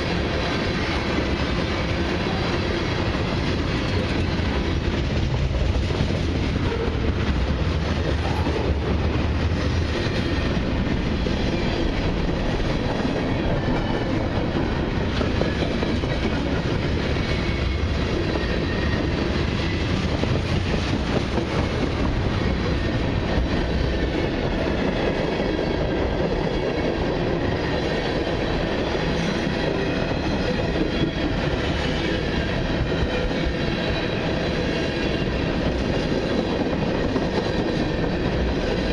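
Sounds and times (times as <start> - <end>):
freight train rolling past: 0.0 - 38.9.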